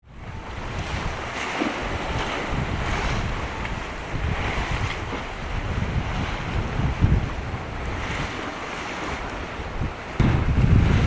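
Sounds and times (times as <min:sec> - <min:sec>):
rushing hiss of wind and water: 0:00.0 - 0:11.0
wind buffeting microphone: 0:00.0 - 0:11.0.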